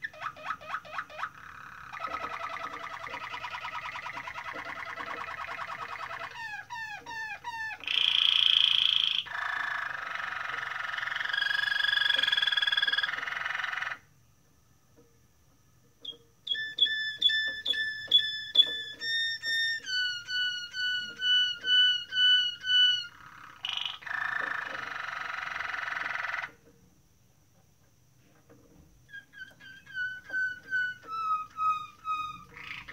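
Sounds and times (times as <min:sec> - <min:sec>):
canary singing trills: 0:00.0 - 0:14.0, 0:16.0 - 0:26.5, 0:29.1 - 0:32.9.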